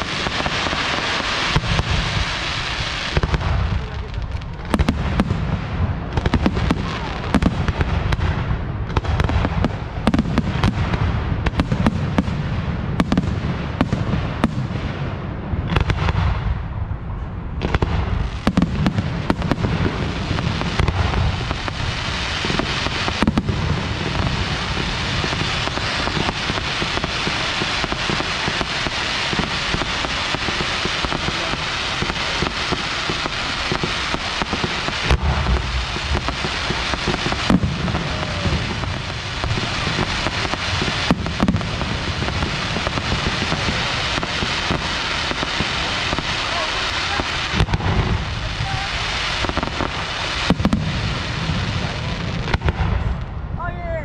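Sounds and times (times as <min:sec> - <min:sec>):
dense crackling of fireworks: 0:00.0 - 0:54.0
fireworks bursting: 0:00.0 - 0:54.0.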